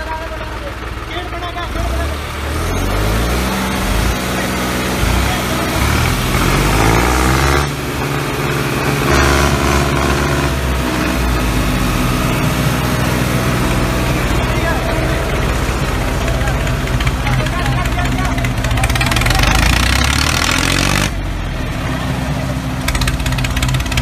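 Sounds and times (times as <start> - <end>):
tractor engine revving: 0.0 - 24.0.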